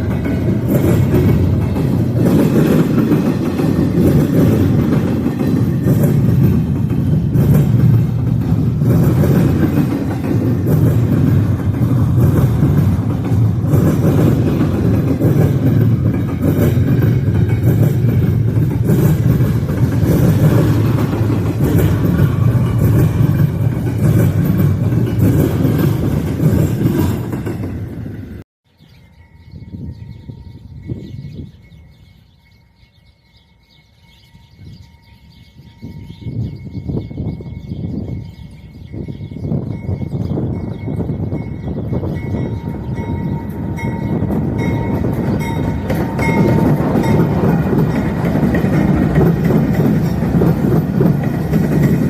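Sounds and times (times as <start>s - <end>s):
freight train wheels rumbling on rail: 0.0s - 28.4s, 29.0s - 52.0s
wind buffeting microphone: 0.0s - 33.0s, 34.2s - 52.0s.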